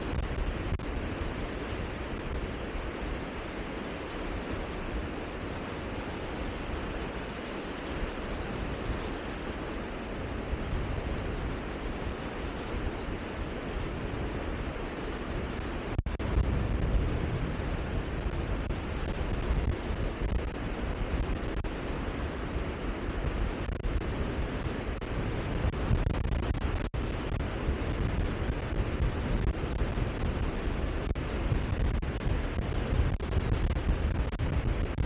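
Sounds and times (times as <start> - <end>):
rushing wind: 0.0 - 35.0
wind buffeting microphone: 0.0 - 35.0.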